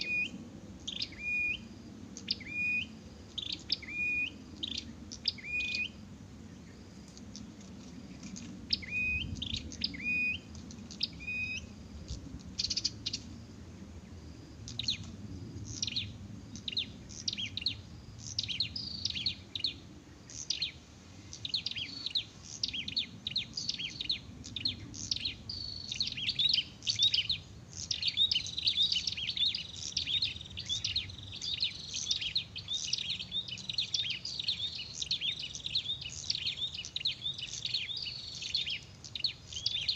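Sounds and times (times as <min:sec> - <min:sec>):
bird chirping: 0:00.0 - 0:13.3, 0:14.1 - 0:39.9.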